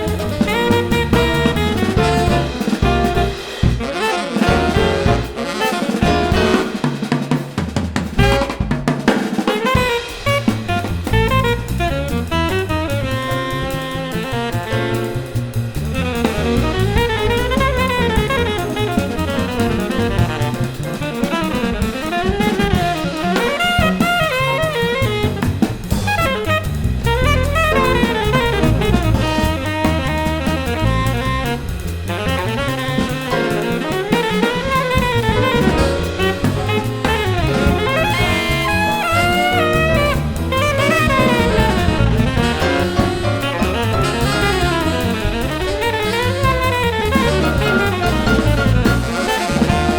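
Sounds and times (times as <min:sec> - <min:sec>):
drum kit: 0:00.0 - 0:49.9
saxophone playing jazz: 0:00.0 - 0:49.9.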